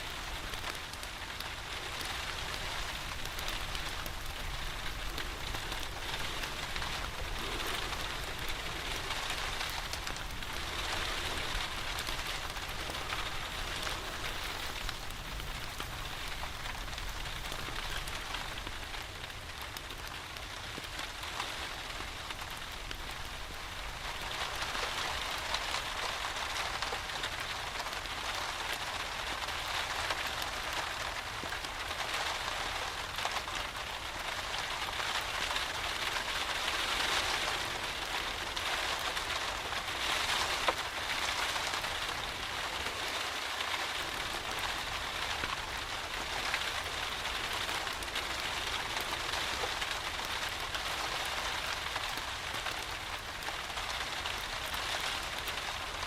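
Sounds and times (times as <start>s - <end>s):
rain falling on a surface: 0.0s - 56.0s.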